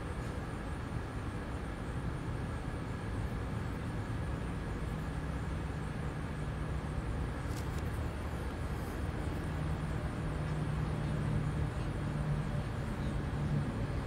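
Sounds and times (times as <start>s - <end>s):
low hum and rumble: 0.0s - 14.0s.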